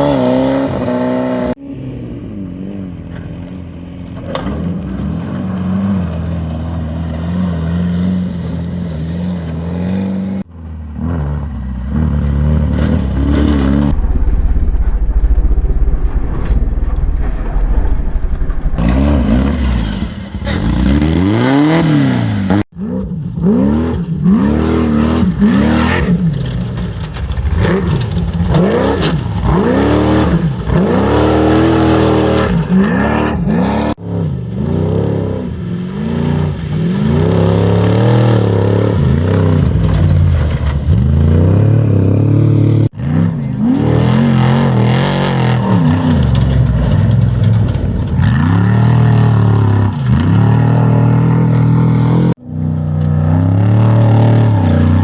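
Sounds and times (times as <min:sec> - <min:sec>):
race engines at full throttle: 0:00.0 - 0:14.0, 0:18.7 - 0:55.0.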